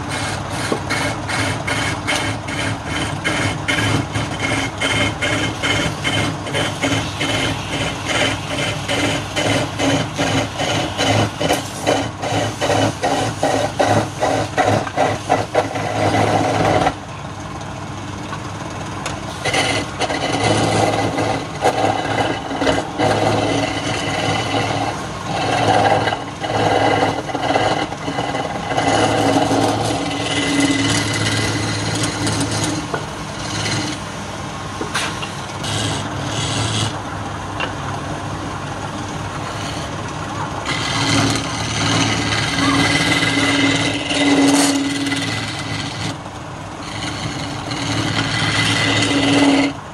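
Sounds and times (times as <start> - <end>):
chisel cutting wood on lathe: 0.0 - 17.0, 19.3 - 34.1, 34.8 - 37.0, 38.8 - 49.9
lathe hum: 0.0 - 49.9.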